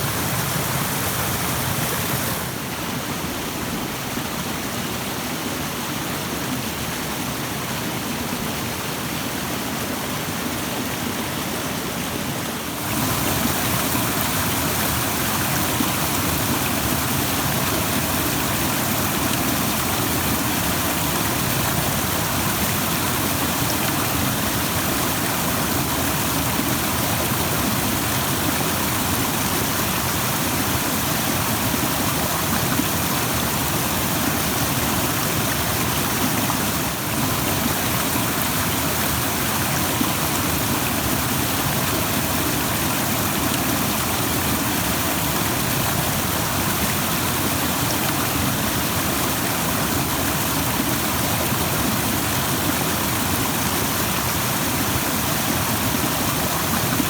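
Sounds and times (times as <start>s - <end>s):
rushing stream water: 0.0s - 57.0s.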